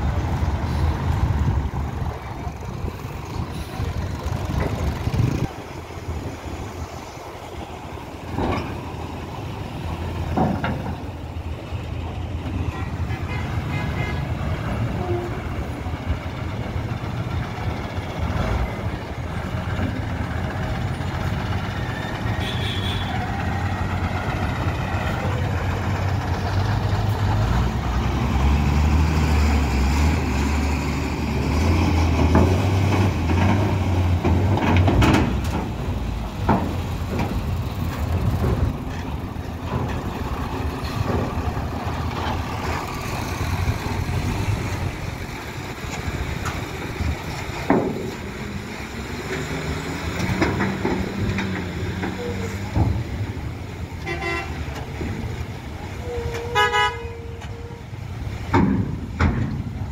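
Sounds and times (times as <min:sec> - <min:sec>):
truck engines droning: 0:00.0 - 0:59.9.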